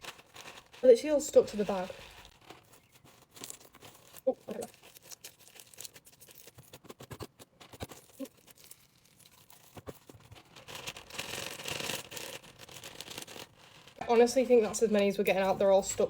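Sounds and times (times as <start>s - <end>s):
foam beads clicking: 0.0s - 15.3s
plastic bag crinkling: 0.0s - 16.0s.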